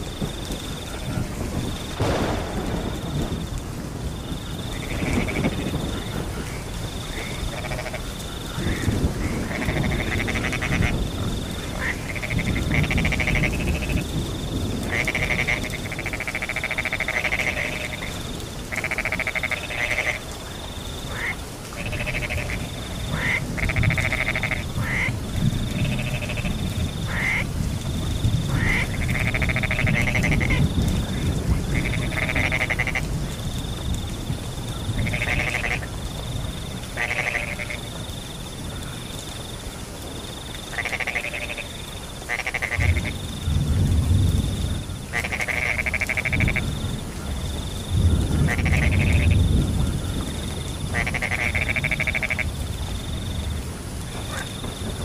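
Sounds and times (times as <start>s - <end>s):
cricket trill: 0.0s - 55.0s
frogs croaking in chorus: 0.0s - 55.0s
low rumble of rain: 0.0s - 55.0s.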